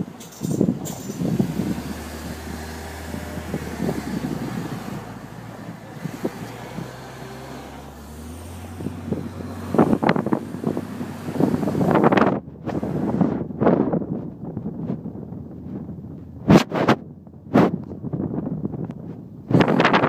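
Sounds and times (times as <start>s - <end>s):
car engine hum: 0.0s - 20.0s
wind buffeting microphone: 0.0s - 20.0s.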